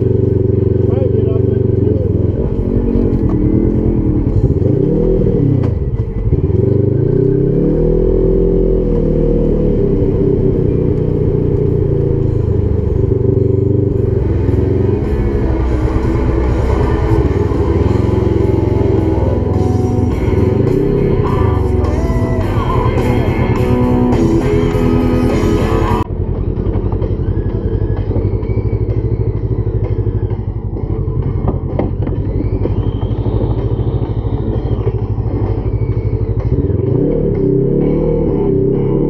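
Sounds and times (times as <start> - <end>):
off-road vehicle engine running: 0.0 - 39.0
rock music with guitar: 0.0 - 39.0.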